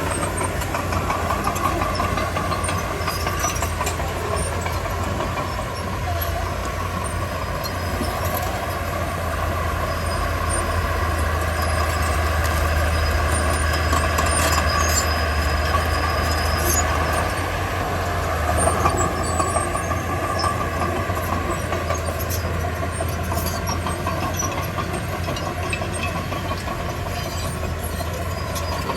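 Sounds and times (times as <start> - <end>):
bulldozer diesel engine under load: 0.0 - 28.9.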